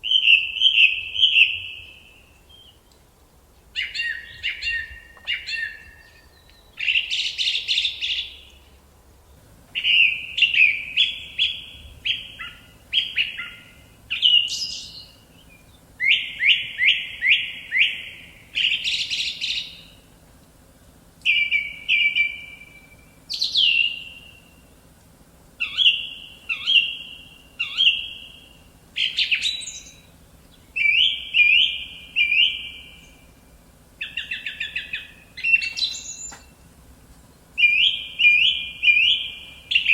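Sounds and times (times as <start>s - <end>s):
songbird singing whistled notes: 0.0s - 3.0s, 3.7s - 20.1s, 21.2s - 25.0s, 25.6s - 39.9s.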